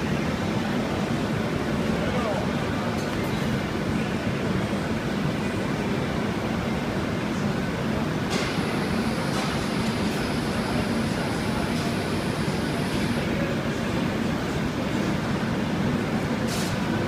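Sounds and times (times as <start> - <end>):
furnace industrial roar: 0.0 - 17.0.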